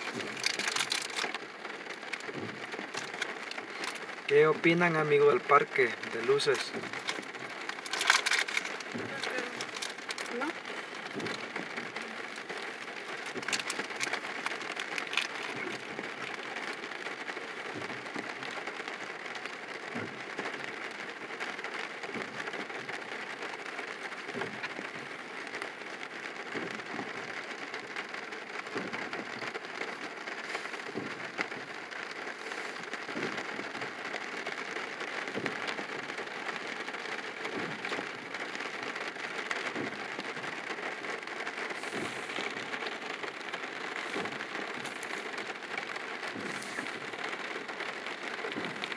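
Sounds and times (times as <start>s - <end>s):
rain on a car roof: 0.0s - 48.9s
sharp ticks of raindrops: 0.0s - 48.9s.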